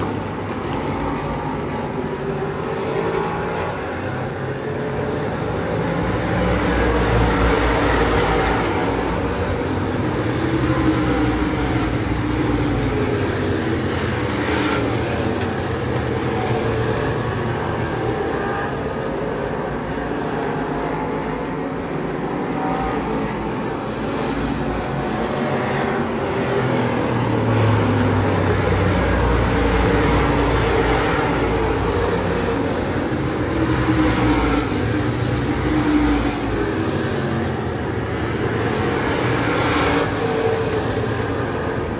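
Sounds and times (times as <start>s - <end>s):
race car engines droning: 0.0s - 41.9s.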